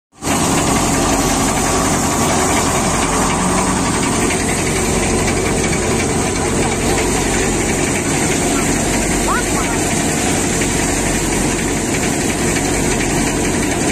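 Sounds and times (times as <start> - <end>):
thresher machine drone: 0.2 - 13.9.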